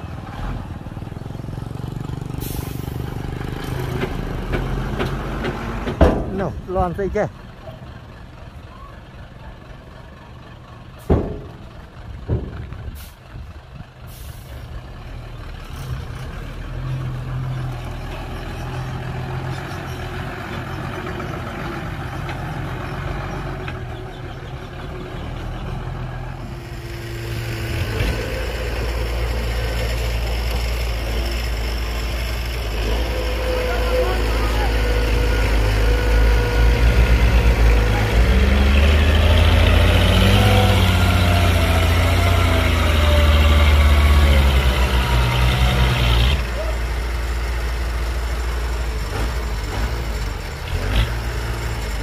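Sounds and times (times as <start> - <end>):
diesel truck engines: 0.0 - 52.0.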